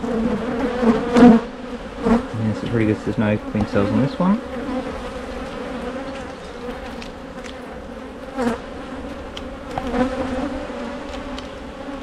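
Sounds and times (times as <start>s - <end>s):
honey bees buzzing: 0.0s - 12.0s
single bee flying past: 0.0s - 12.0s.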